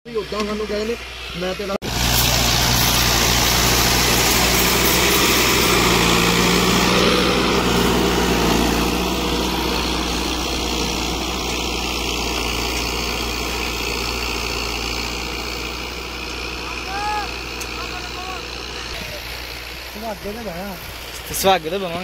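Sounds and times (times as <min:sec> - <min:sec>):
tractor diesel engine under load: 0:00.1 - 0:22.0.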